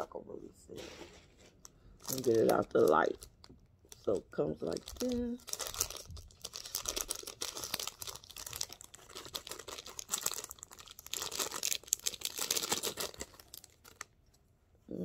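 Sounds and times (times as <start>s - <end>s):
plastic bag crinkling: 1.5s - 14.2s.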